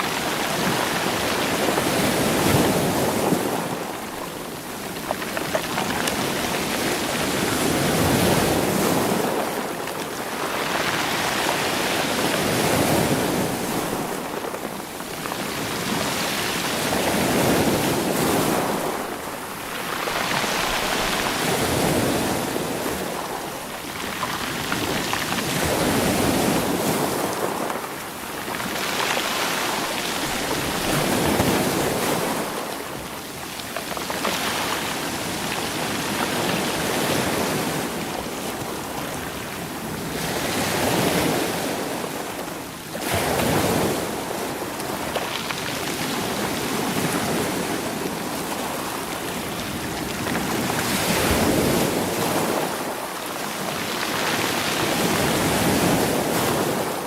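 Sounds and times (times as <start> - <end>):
sea waves surging over rocks: 0.0 - 57.0.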